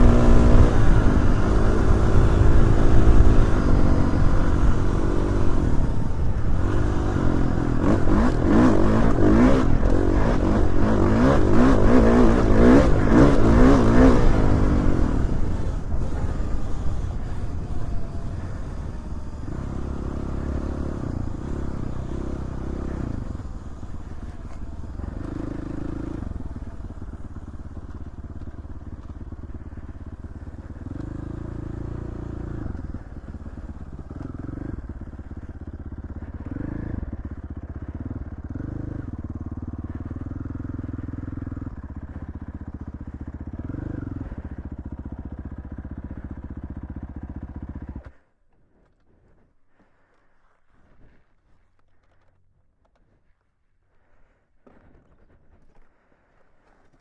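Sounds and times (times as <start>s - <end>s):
dirt bike engine revving: 0.0s - 48.2s.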